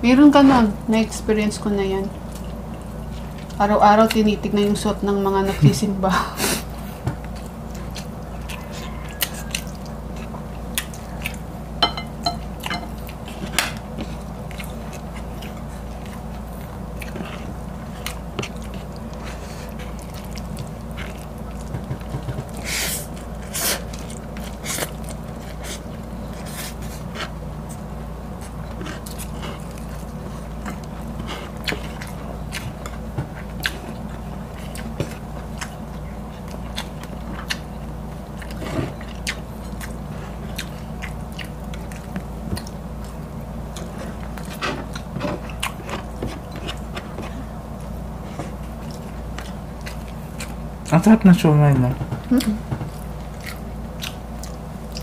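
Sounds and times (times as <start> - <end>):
person chewing and slurping: 6.5 - 50.9.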